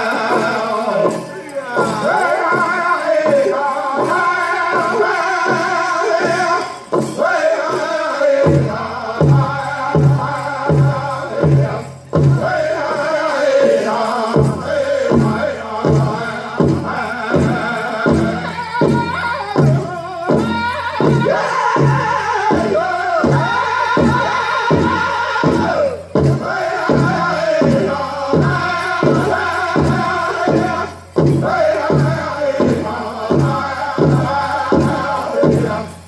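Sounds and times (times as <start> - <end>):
big drum beating: 0.0 - 36.0
men singing in unison: 0.0 - 36.0.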